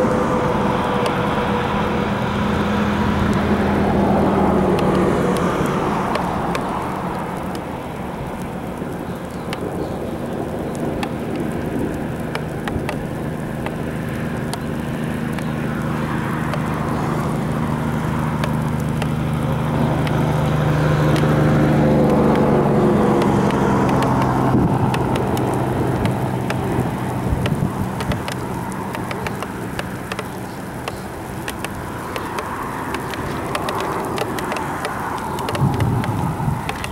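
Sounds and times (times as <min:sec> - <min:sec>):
raindrops ticking: 0:00.0 - 0:36.9
vehicle engine and tyre hum: 0:00.0 - 0:36.9.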